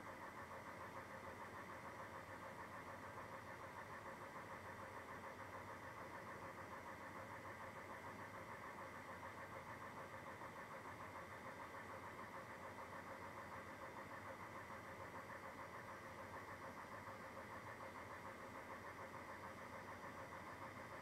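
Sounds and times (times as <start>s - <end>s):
quiet pulsing mechanical hum: 0.0s - 21.0s.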